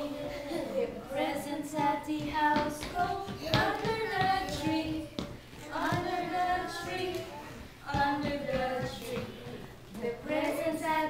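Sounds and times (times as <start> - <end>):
children singing: 0.0 - 11.0
woman singing: 0.8 - 11.0.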